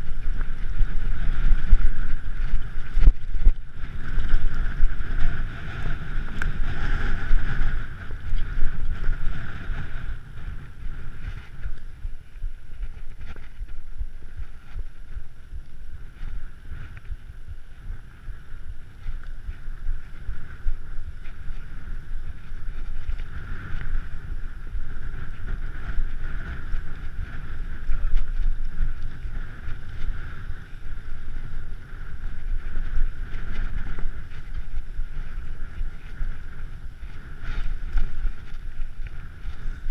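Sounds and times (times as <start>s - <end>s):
bike tyres rumbling on rocks: 0.0s - 39.9s
wind on microphone: 0.0s - 39.9s.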